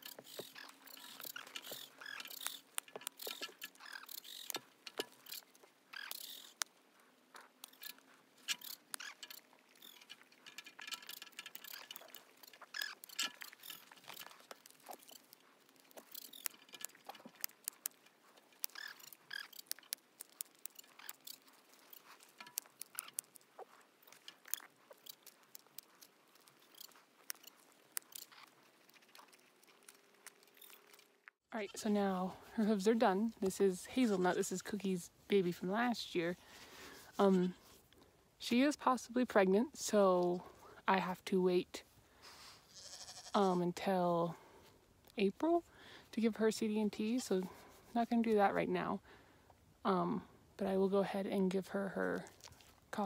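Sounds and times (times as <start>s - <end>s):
shears snipping hoof: 0.0s - 42.8s.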